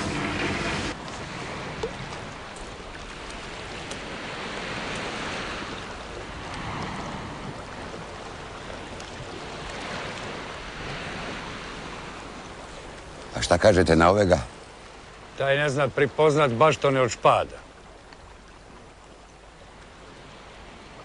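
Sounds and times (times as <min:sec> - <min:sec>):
sea waves on rocky shore: 0:00.0 - 0:21.0.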